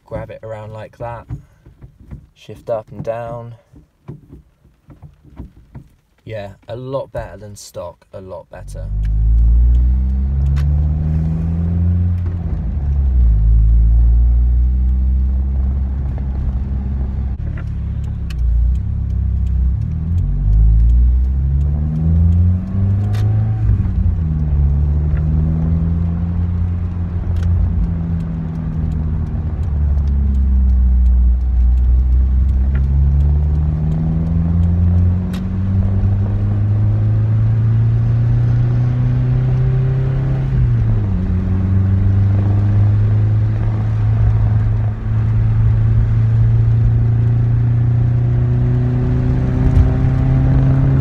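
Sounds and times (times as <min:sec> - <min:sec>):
car engine revving through gears: 0:08.2 - 0:51.0.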